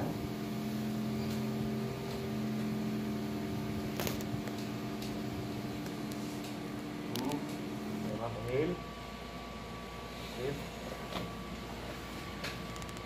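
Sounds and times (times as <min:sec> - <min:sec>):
massager motor humming: 0:00.0 - 0:13.0.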